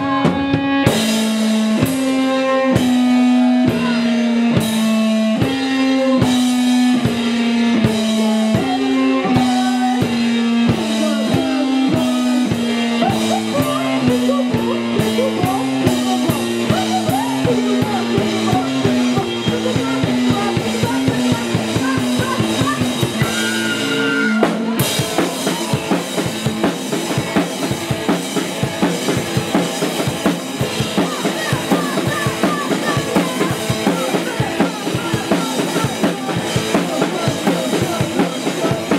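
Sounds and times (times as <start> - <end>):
fast dense drumming: 0.0 - 38.9
rock band playing: 0.0 - 38.9.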